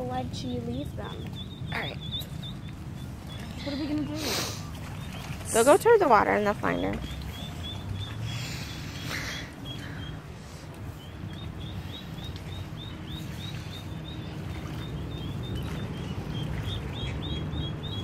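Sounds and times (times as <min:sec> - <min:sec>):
low steady rumble: 0:00.0 - 0:18.0
ducklings peeping: 0:00.1 - 0:18.0.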